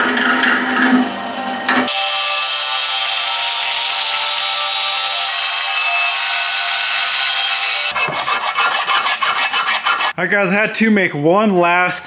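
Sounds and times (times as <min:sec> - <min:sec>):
angle grinder cutting steel: 0:00.0 - 0:10.2.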